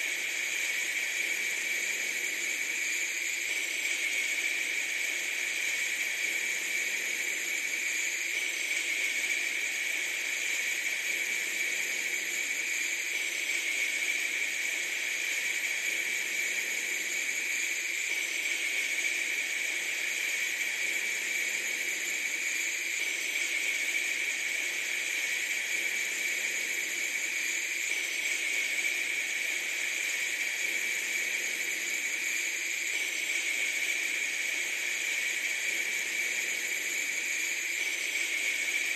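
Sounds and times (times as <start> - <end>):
steady bright hissing noise: 0.0 - 38.9.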